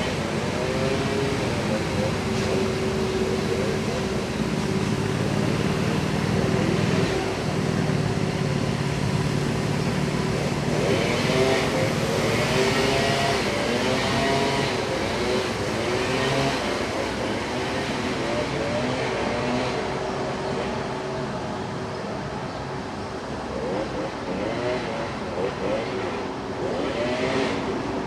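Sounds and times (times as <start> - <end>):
motor vehicle running: 0.0 - 28.0.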